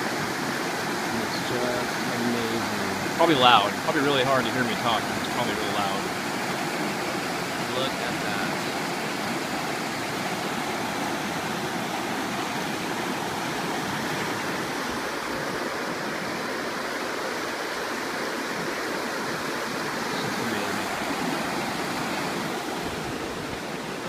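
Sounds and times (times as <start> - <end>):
water rushing over boulders: 0.0 - 24.0.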